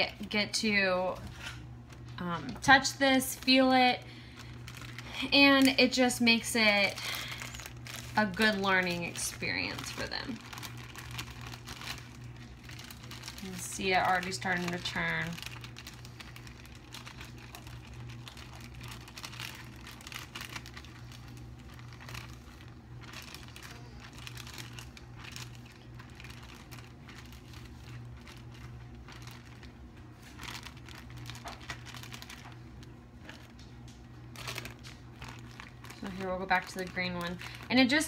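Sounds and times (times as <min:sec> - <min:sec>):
plastic bag crinkling: 0:00.0 - 0:38.0
steady low hum: 0:00.0 - 0:38.0.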